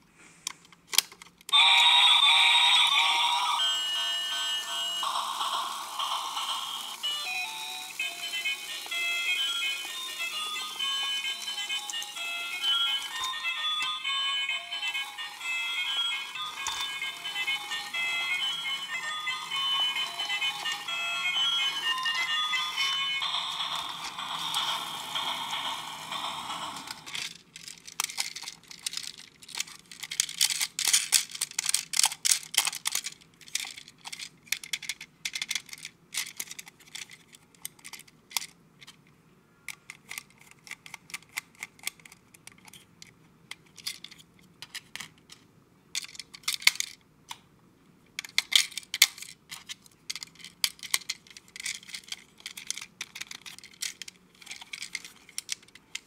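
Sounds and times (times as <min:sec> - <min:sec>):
plastic toy clicking and rattling: 0:00.6 - 0:01.6, 0:06.8 - 0:39.1, 0:39.7 - 0:47.4, 0:48.1 - 0:56.0.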